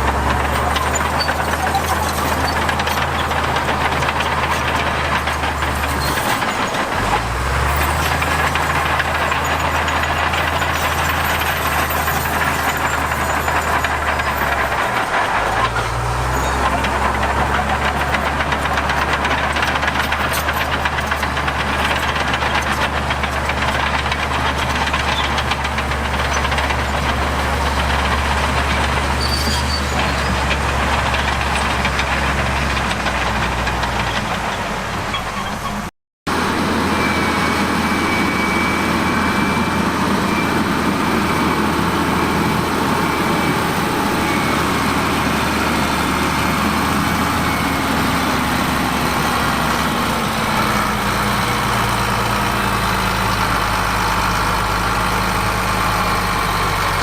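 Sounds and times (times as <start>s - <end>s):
diesel engine of earthmoving machinery: 0.0s - 57.0s.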